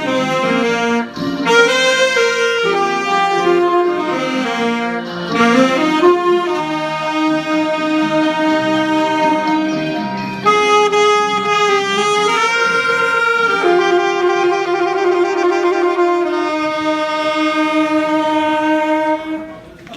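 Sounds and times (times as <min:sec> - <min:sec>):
saxophone playing slow melody: 0:00.0 - 0:19.9
soft accompaniment: 0:00.0 - 0:19.9.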